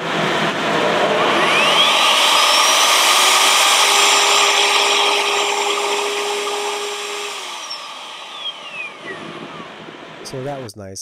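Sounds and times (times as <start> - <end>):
router motor whine: 0.0 - 10.4.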